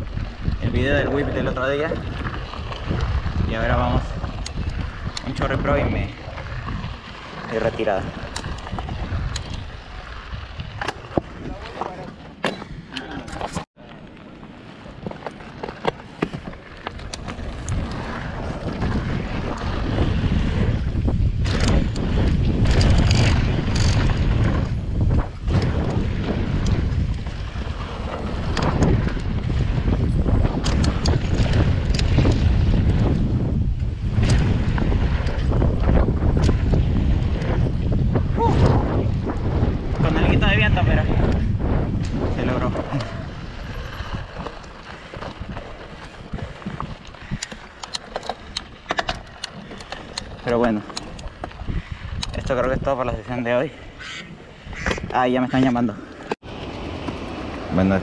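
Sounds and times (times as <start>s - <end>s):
bike rattling: 0.0s - 58.0s
tyre noise on loose dirt: 0.0s - 58.0s
wind buffeting camera microphone: 0.0s - 58.0s.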